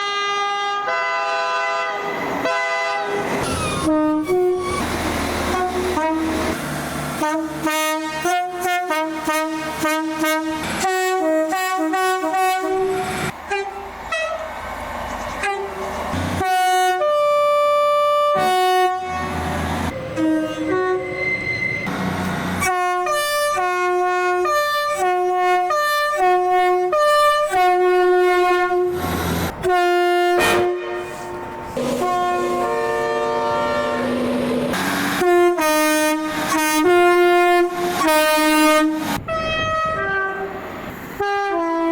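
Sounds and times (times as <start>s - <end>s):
train horns blowing chord: 0.0s - 3.2s, 5.4s - 6.6s, 7.2s - 14.4s, 15.4s - 41.9s.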